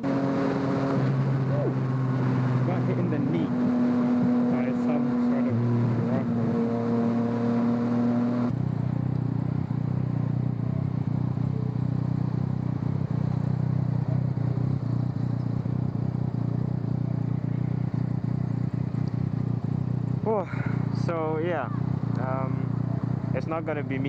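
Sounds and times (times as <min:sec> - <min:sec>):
motorcycle engine running steadily: 0:00.0 - 0:24.0.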